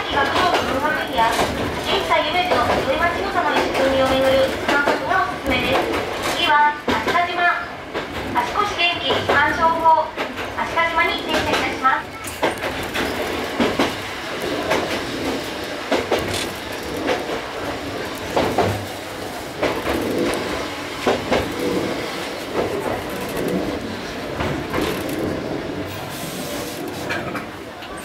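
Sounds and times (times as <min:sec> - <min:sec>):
train wheels rumbling: 0:00.0 - 0:28.0
wheels clacking over rail joints: 0:00.0 - 0:28.0.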